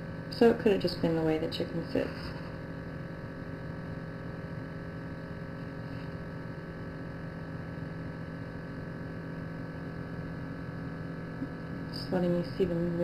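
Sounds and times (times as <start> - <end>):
low electrical hum with tones: 0.0 - 13.0.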